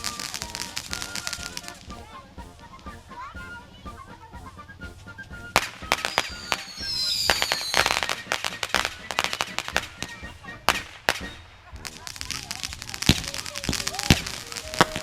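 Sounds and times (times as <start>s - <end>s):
fireworks crackling pops: 0.0s - 3.6s, 5.0s - 15.0s
fireworks bangs: 0.0s - 15.0s
fireworks whistles falling in pitch: 0.0s - 15.0s.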